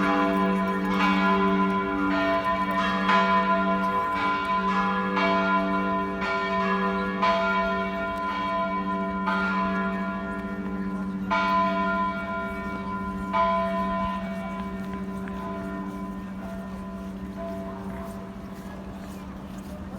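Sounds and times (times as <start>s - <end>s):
church bells ringing: 0.0s - 19.2s.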